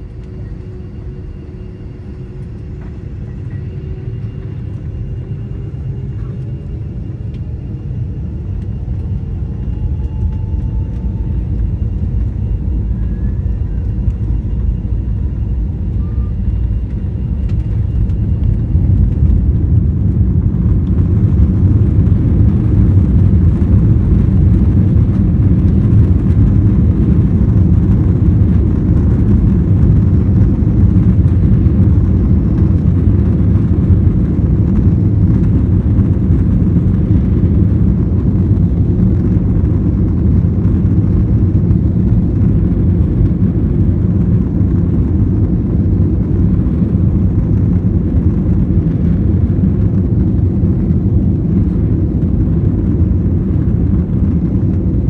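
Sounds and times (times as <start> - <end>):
aircraft rolling on runway: 0.0 - 55.0
jet engines rumbling: 0.0 - 55.0.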